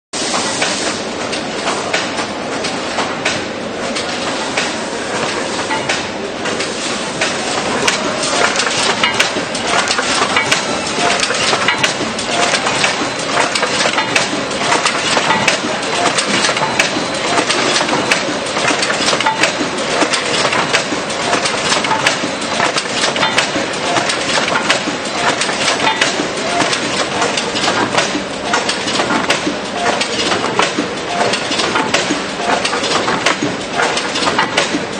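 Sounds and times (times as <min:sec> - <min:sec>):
wrapping machine clattering: 0:03.9 - 0:34.9.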